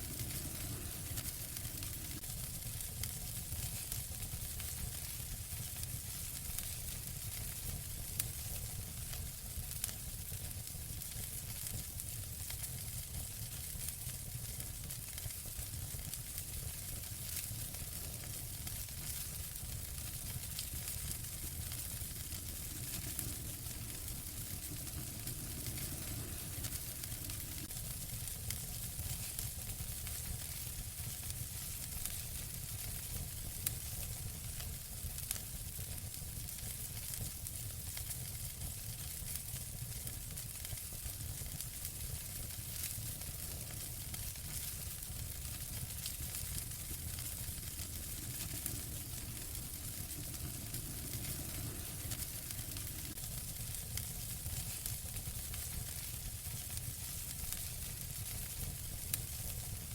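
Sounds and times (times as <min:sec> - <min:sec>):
fire popping: 0:00.0 - 0:59.9
low rumble of fire: 0:00.0 - 0:59.9
wood fire crackling: 0:00.0 - 0:59.9.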